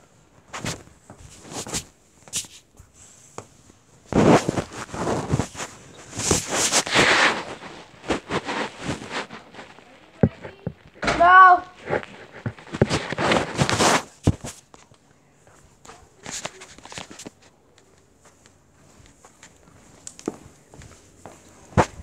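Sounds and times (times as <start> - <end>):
rustling handling noises: 0.0 - 22.0.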